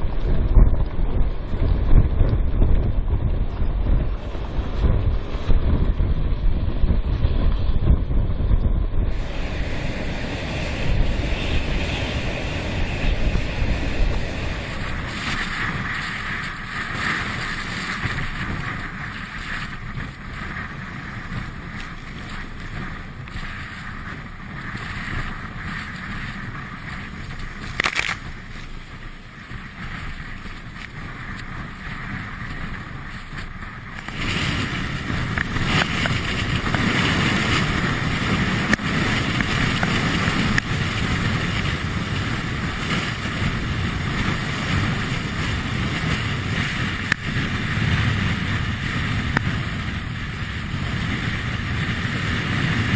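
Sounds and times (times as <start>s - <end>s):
wind and road noise from car: 0.0s - 52.9s.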